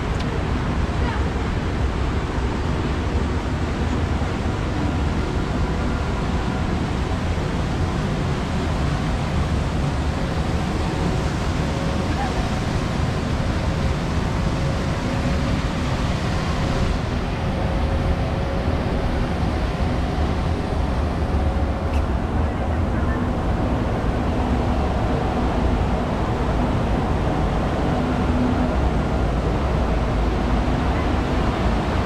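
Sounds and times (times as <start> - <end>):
faint mechanical hum: 0.0 - 32.0.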